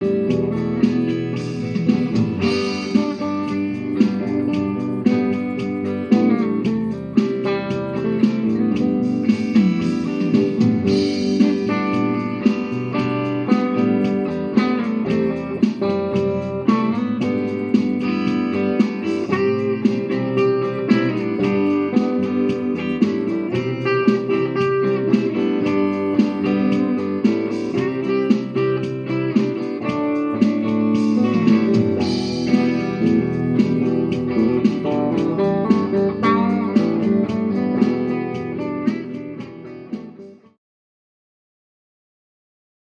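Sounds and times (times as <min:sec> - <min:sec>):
plucked guitar notes: 0:00.0 - 0:40.5.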